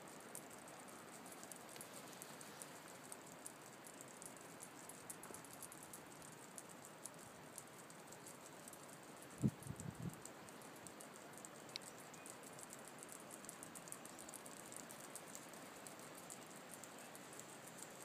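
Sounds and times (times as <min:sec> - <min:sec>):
faint dry clicking of beetles: 0:00.0 - 0:18.0.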